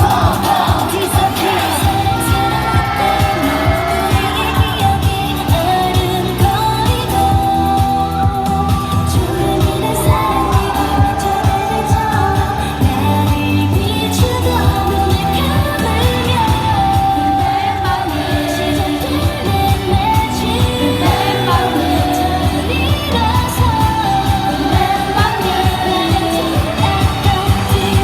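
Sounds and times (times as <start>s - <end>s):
pop backing track with beat: 0.0s - 28.0s
women singing pop song: 0.0s - 28.0s.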